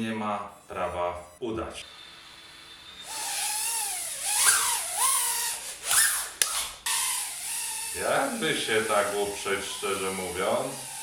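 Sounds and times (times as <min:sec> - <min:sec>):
drone motors whining: 0:00.4 - 0:11.0.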